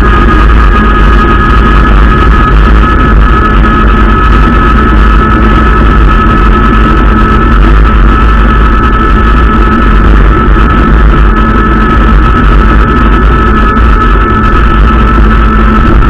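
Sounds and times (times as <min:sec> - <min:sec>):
high whine: 0:00.0 - 0:16.0
wind rumble: 0:00.0 - 0:16.0.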